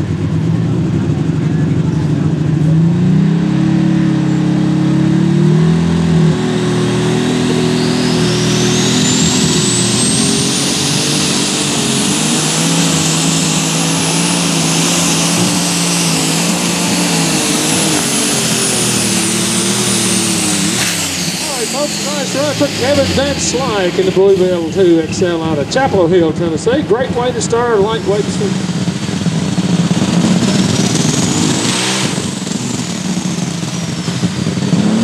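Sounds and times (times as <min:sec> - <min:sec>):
high turbo whine: 0:00.0 - 0:35.0
tractor engine running flat out: 0:00.0 - 0:35.0.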